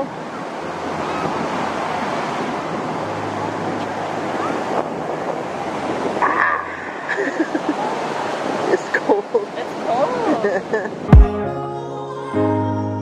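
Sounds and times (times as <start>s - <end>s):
ocean surf on sandy beach: 0.0s - 11.2s
wind buffeting microphone: 0.0s - 11.3s.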